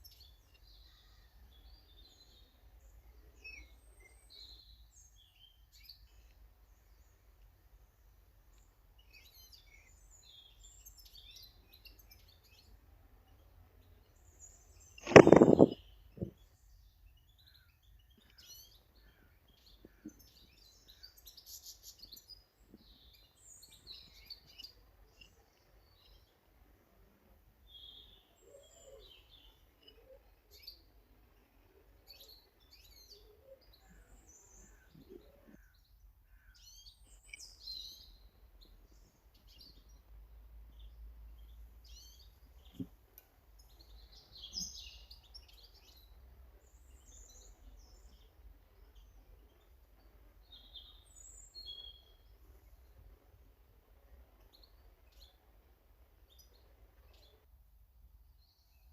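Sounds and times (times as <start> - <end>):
songbirds chirping faintly: 0.0 - 58.9.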